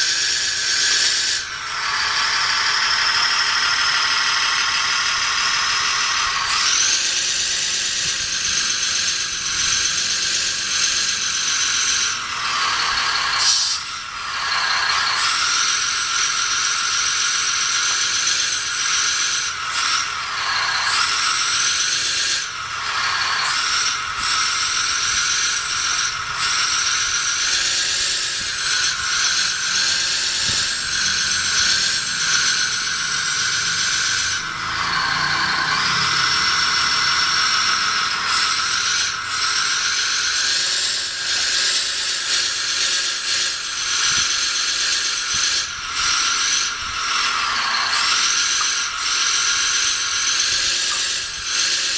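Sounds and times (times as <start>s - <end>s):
simulated excavator engine sounds: 0.0s - 51.9s
toy motors and gears whirring: 0.0s - 51.9s.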